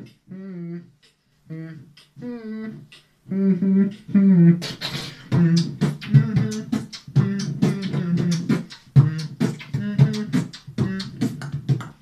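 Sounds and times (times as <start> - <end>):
beatboxing into microphone: 0.0 - 12.0.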